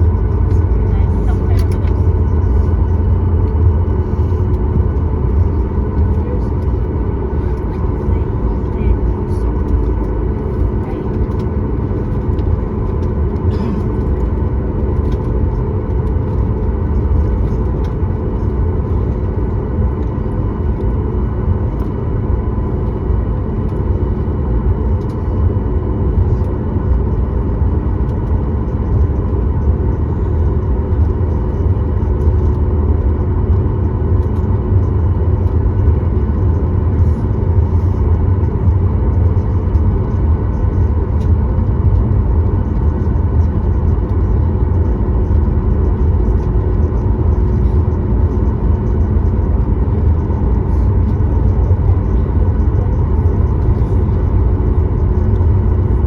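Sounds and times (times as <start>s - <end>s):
airplane cabin engine hum: 0.0s - 56.0s.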